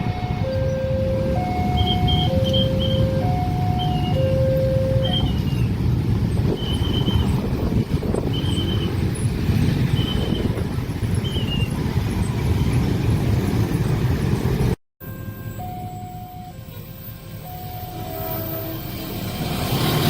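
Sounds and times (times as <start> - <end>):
crossing warning signal tones: 0.0 - 11.8, 15.0 - 19.3
train rumbling past: 0.0 - 20.0.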